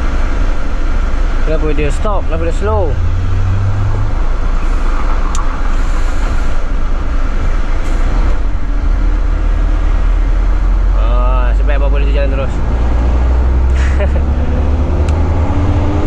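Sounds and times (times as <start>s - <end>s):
road and wind noise: 0.0s - 16.0s
truck diesel engine drone: 0.0s - 16.0s.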